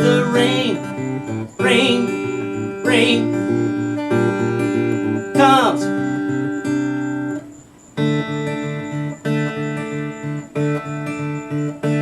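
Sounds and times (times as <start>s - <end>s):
guitar playing: 0.0s - 12.0s.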